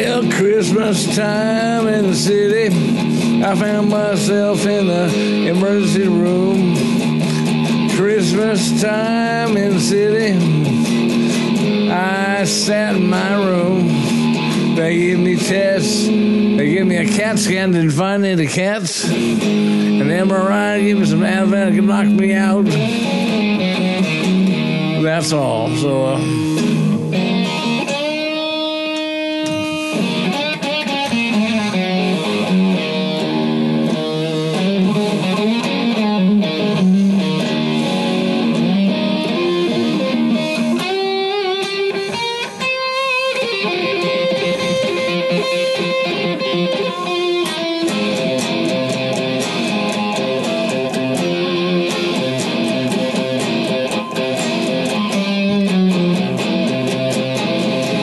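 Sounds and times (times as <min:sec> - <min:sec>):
electric guitar with vibrato: 0:00.0 - 0:58.0.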